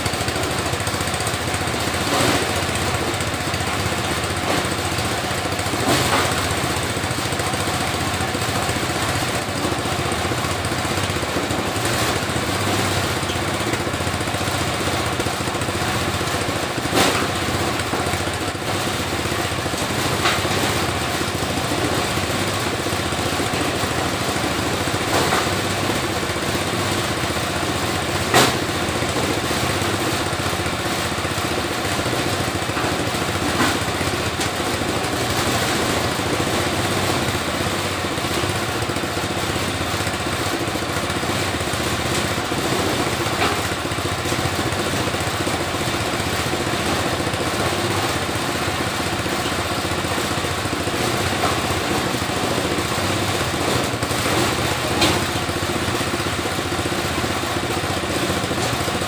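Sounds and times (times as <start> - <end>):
dehusking machine running: 0.0 - 59.0.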